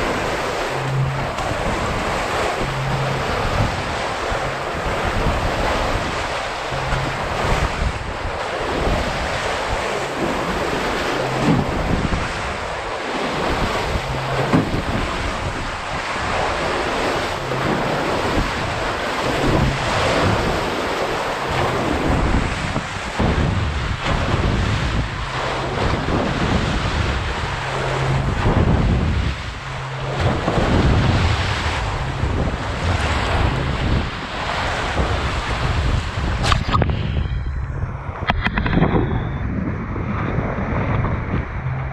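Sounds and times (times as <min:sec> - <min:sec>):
sea waves rushing: 0:00.0 - 0:41.9
wind buffeting microphone: 0:00.0 - 0:41.9.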